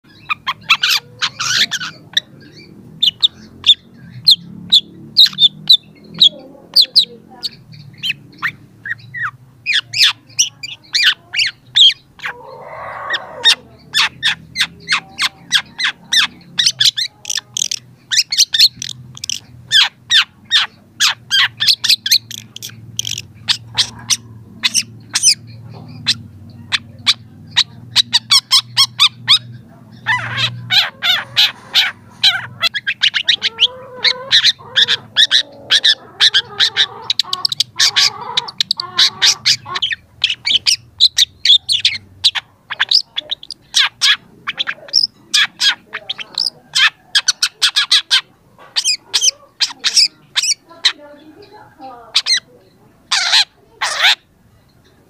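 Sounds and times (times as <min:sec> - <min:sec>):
bird singing sharp chipping notes: 0:00.0 - 0:12.6, 0:13.2 - 0:51.1
harsh lower bird call: 0:00.0 - 0:51.5.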